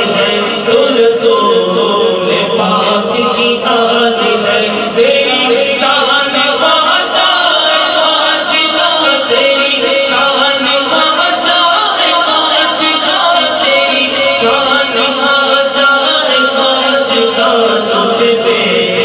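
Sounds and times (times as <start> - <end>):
men singing devotional chant: 0.0 - 19.0.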